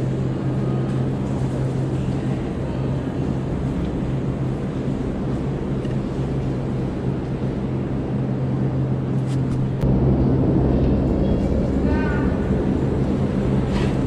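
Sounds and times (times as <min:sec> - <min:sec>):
station low hum: 0:00.0 - 0:14.0.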